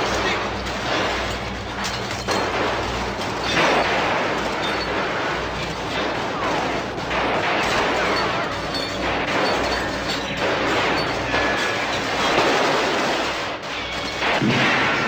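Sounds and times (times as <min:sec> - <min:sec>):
automatic gunfire: 0:00.0 - 0:15.0.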